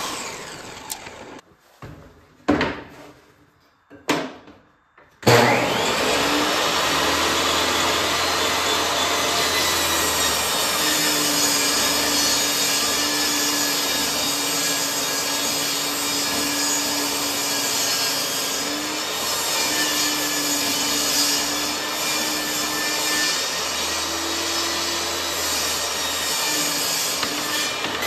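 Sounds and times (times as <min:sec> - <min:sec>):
table saw cutting wood: 0:00.0 - 0:01.4, 0:05.2 - 0:28.0.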